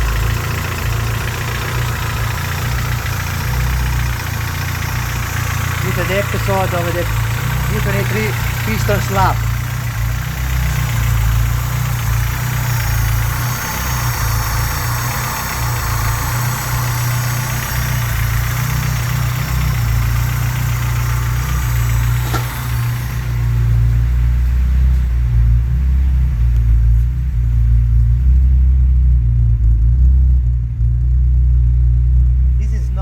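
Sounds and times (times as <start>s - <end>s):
engine idling: 0.0s - 33.0s
engine knocking: 0.0s - 33.0s.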